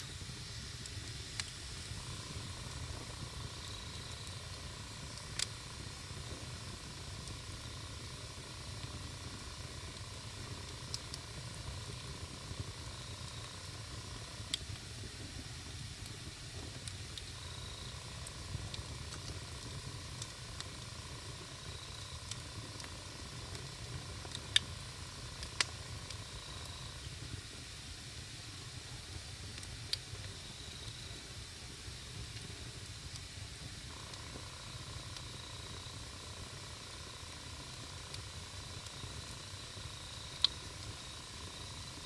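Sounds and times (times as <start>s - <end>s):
campfire hissing: 0.0s - 42.0s
fire crackling and popping: 0.0s - 42.0s.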